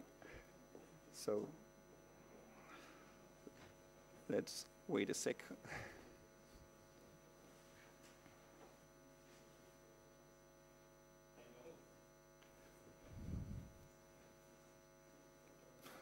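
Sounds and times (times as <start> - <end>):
mains hum: 0.0 - 16.0.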